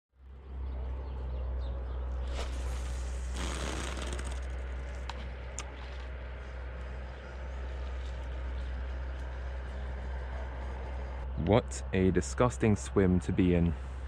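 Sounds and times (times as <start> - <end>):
steady low rumble: 0.2 - 14.0.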